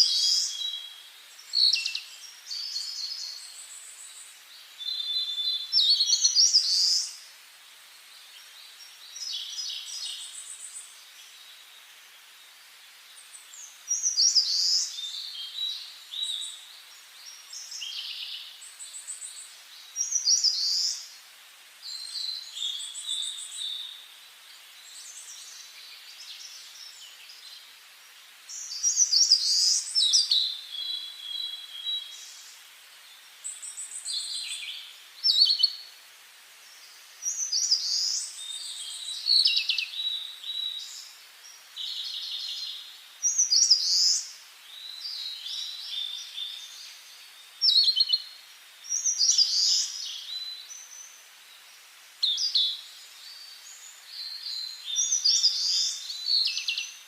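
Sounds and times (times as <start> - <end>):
faint steady hiss: 0.0 - 57.0
songbirds singing: 0.0 - 57.0.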